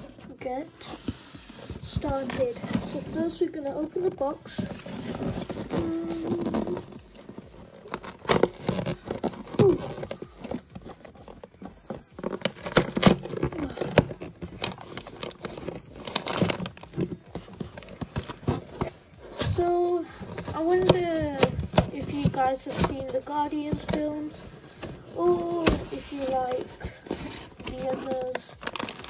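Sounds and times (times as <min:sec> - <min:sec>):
cardboard box crinkling and tearing: 0:00.0 - 0:29.0.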